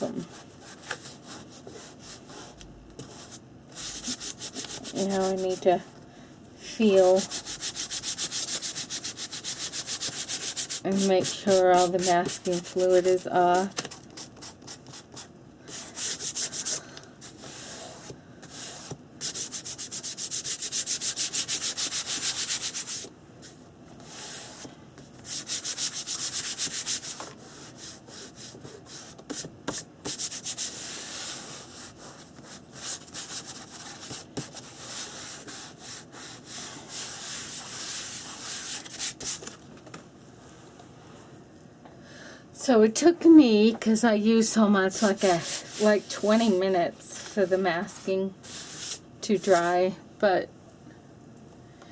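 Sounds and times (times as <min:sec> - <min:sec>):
scratchy rubbing on paper: 0:00.1 - 0:05.7, 0:07.0 - 0:13.3, 0:13.9 - 0:39.5, 0:45.0 - 0:46.6, 0:47.2 - 0:49.7.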